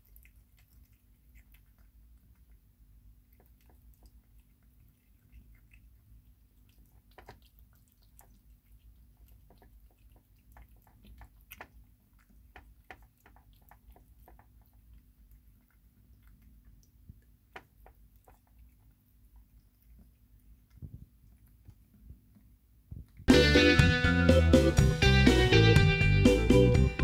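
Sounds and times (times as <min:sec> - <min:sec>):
kitten chewing and licking: 0:00.0 - 0:23.3.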